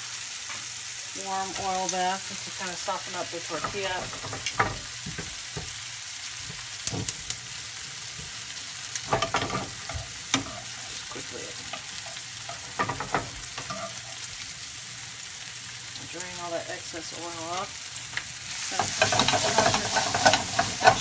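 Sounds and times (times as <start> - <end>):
tortilla sizzling in oil: 0.0 - 21.0.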